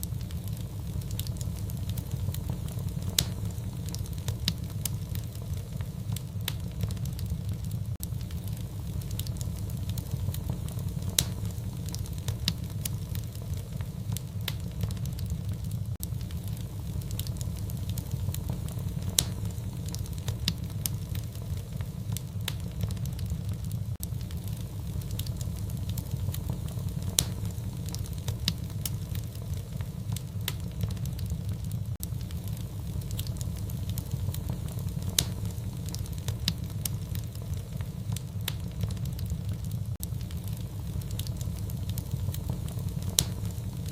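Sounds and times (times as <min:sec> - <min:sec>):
fire crackling and popping: 0:00.0 - 0:43.9.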